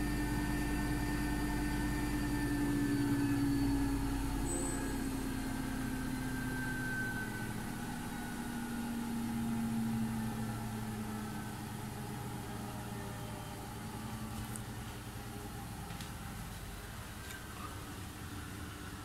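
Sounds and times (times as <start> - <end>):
washing machine spin cycle hum: 0.0 - 19.0.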